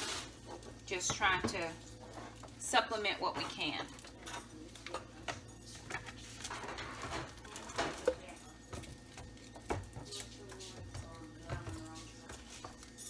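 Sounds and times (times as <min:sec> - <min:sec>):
household items clicking and knocking: 0:00.0 - 0:13.0.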